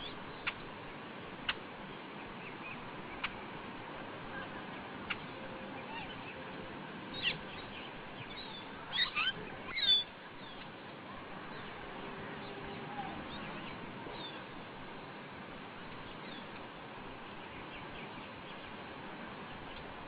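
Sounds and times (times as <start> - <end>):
birds chirping: 0.0 - 3.6, 4.3 - 15.1, 15.8 - 20.0
steady background hiss: 0.0 - 20.0.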